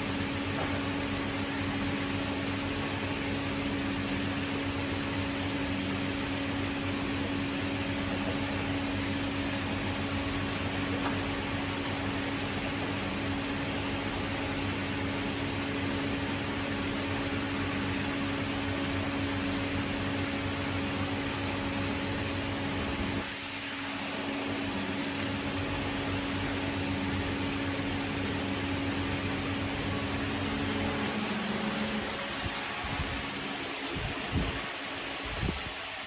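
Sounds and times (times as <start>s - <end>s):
steady mechanical hum: 0.0s - 36.0s.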